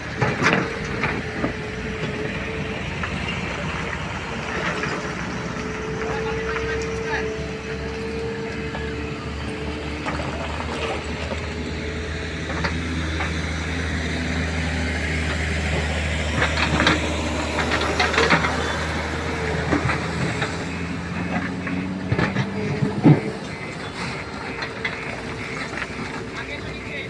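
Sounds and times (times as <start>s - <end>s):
bucket clanking and scraping stone: 0.0s - 27.0s
diesel engine running: 0.0s - 27.0s.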